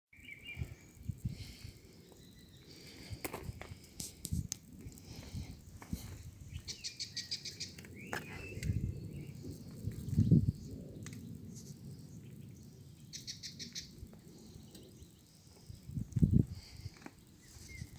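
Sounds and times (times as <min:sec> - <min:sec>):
low rumble on microphone: 0:00.2 - 0:13.1, 0:13.8 - 0:17.9
birds chirping: 0:00.2 - 0:17.9.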